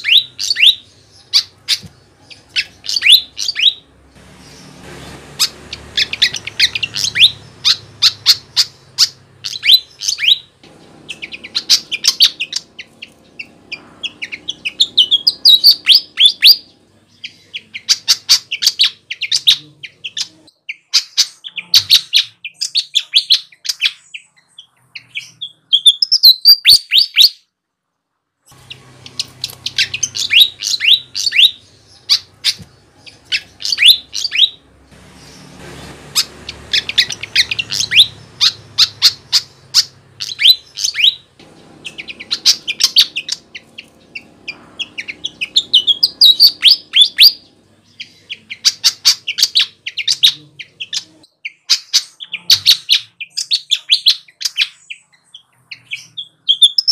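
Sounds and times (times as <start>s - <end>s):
bird singing high chirps: 0.0s - 27.4s, 28.5s - 56.9s.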